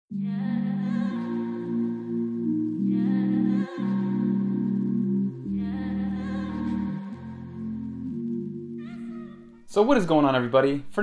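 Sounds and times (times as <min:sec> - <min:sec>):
soft sustained chords: 0:00.1 - 0:10.4.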